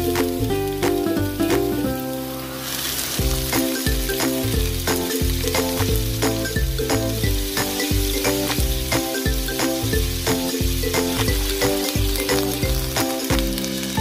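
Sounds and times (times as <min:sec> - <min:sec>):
background music with steady beat: 0:00.0 - 0:02.0, 0:03.2 - 0:14.0
chicken sizzling in a wok: 0:00.0 - 0:14.0.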